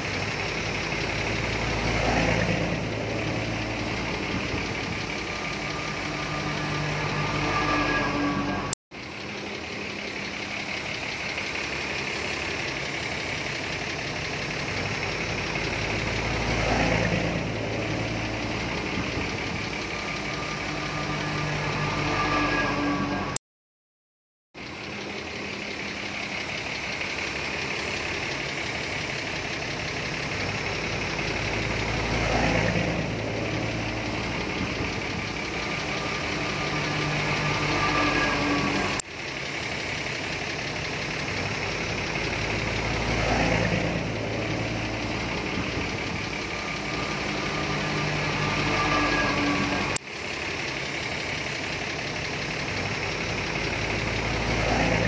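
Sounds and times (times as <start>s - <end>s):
bulldozer diesel engine running: 0.0s - 23.4s, 24.6s - 55.0s.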